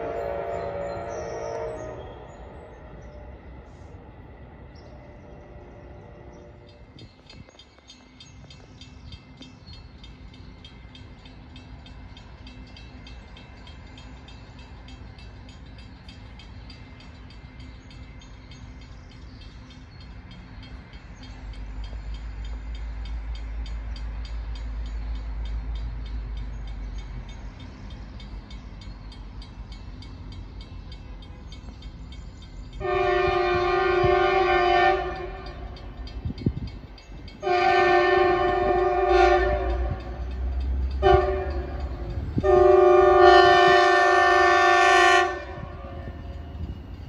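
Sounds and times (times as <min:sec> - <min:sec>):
distant diesel train rumble: 0:00.0 - 0:47.0.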